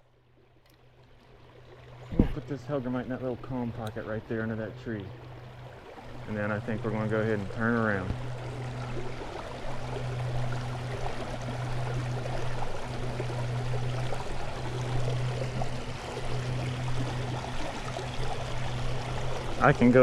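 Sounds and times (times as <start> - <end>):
creek water rippling: 0.0 - 20.0
steady low hum: 0.0 - 20.0.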